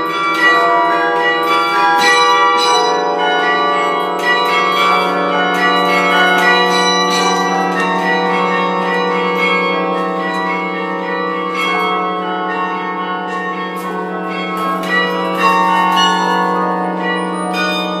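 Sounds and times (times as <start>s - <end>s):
carillon bells playing: 0.0s - 18.0s.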